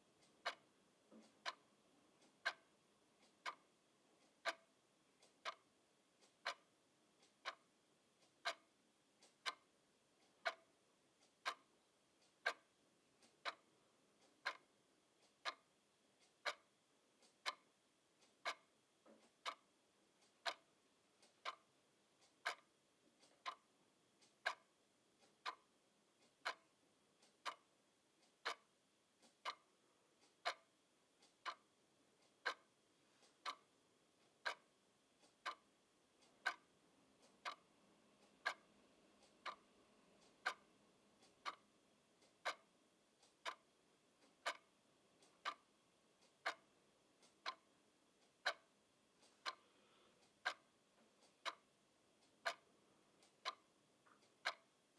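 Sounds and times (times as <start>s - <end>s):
mechanical clock ticking: 0.0s - 49.6s, 50.2s - 54.9s.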